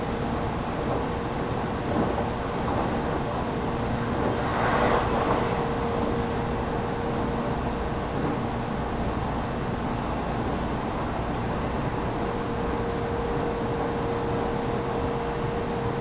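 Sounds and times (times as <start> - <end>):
steady low hum: 0.0 - 16.0
train wheels rumbling on rail: 0.0 - 16.0.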